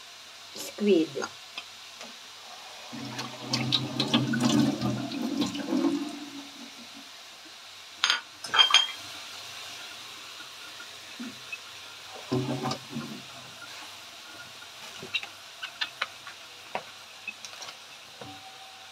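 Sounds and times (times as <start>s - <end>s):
water running from tap: 0.9s - 7.6s, 8.4s - 18.9s.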